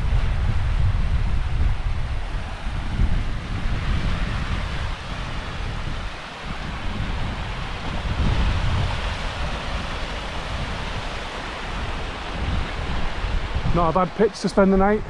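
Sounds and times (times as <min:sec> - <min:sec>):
wind buffeting microphone: 0:00.0 - 0:15.0
waterfall cascading down rocks: 0:02.2 - 0:15.0.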